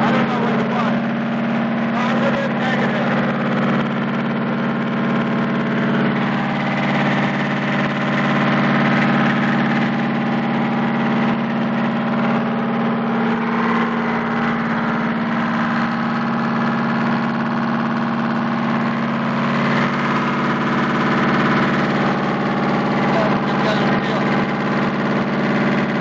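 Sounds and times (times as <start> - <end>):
diesel generator running: 0.0 - 26.0.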